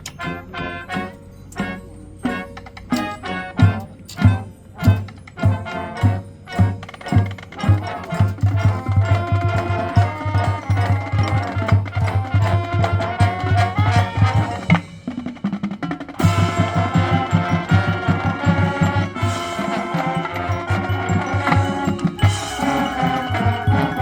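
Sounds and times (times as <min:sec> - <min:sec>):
mallet percussion: 0:00.0 - 0:24.0
marching band playing: 0:00.0 - 0:24.0
drums beating fast pulse: 0:03.0 - 0:24.0.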